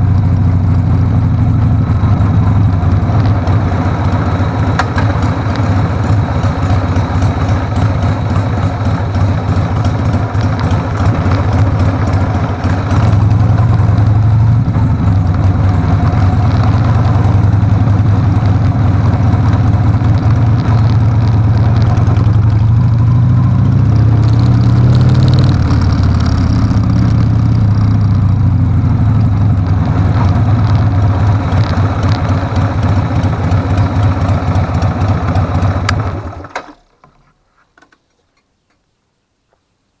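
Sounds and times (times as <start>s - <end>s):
motorcycle engine running: 0.0s - 36.6s.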